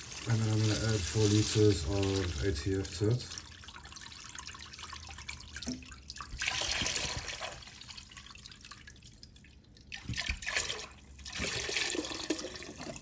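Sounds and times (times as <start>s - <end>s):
liquid splashing into container: 0.0s - 13.0s.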